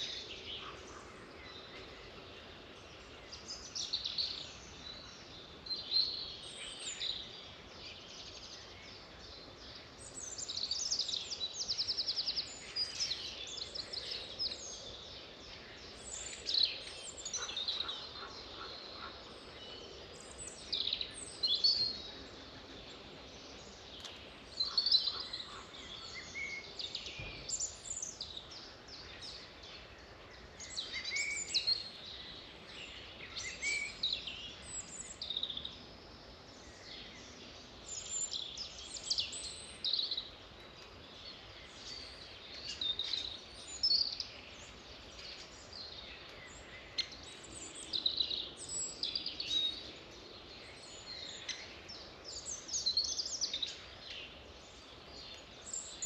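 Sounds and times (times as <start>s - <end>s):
birds chirping and trilling: 0.0s - 56.0s
steady background hiss: 0.0s - 56.0s.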